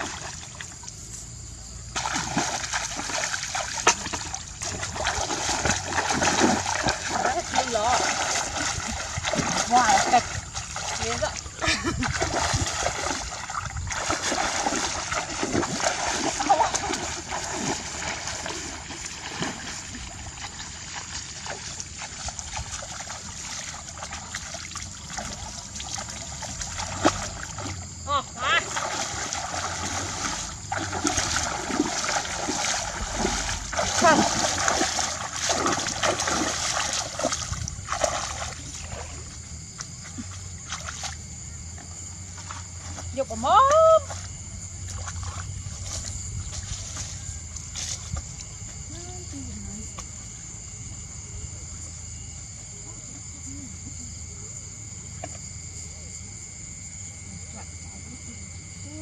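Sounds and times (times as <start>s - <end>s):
splashing in shallow water: 0.0s - 51.8s.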